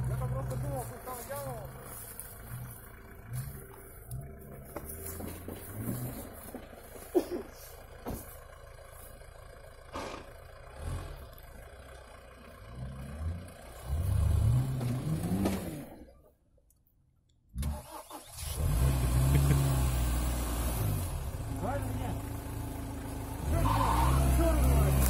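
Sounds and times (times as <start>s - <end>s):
engine revving: 0.0s - 6.6s, 9.9s - 16.2s, 17.5s - 25.0s.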